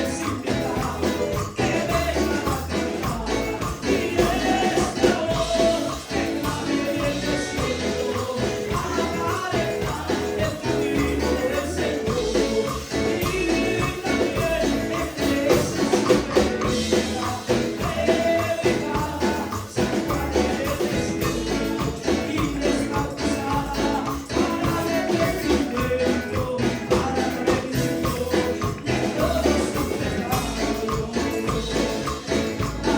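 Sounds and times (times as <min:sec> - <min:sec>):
gospel singing: 0:00.0 - 0:32.9
tambourine jingling: 0:00.0 - 0:32.9.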